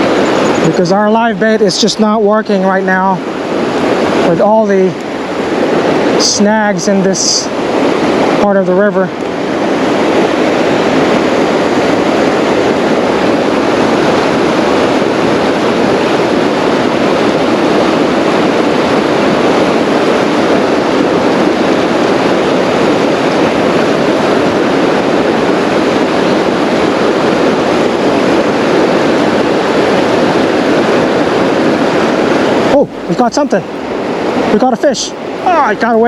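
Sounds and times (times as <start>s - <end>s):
fast-flowing river water: 0.0s - 36.0s.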